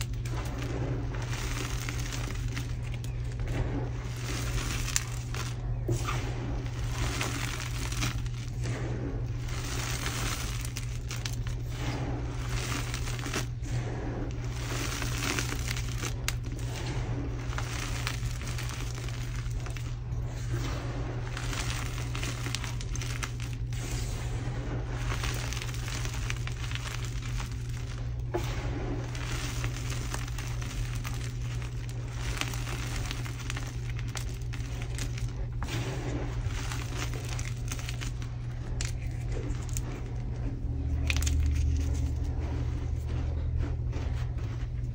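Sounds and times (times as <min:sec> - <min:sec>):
chalk crunching by hand: 0:00.0 - 0:44.8.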